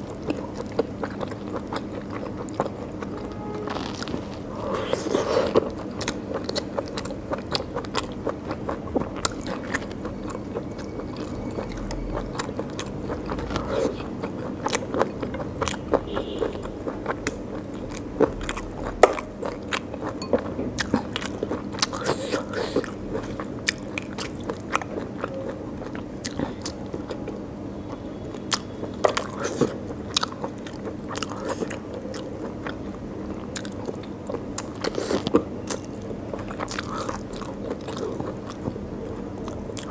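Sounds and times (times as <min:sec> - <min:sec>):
wet chewing and mouth clicks: 0:00.0 - 0:27.4, 0:28.5 - 0:39.9.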